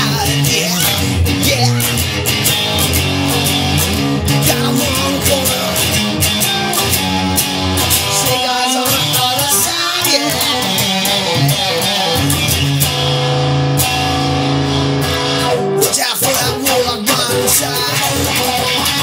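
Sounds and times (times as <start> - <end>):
regular beat: 0.0 - 19.0
steady bass line: 0.0 - 19.0
sustained wavering guitar notes: 0.0 - 19.0.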